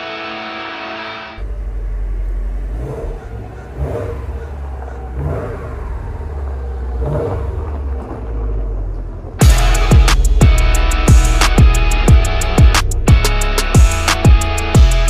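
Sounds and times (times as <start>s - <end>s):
car engine rumbling at low revs: 1.4s - 15.0s.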